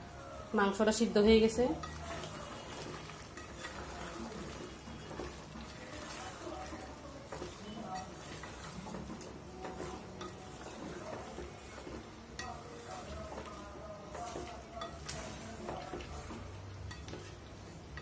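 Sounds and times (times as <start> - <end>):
meat sizzling: 0.0 - 18.0
wooden spatula scraping pot: 1.3 - 18.0.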